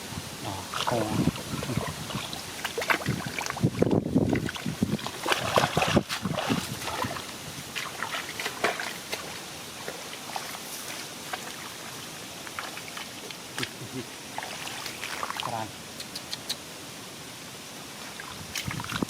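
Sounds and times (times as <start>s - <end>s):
water splashing: 0.6s - 15.7s, 18.0s - 19.0s.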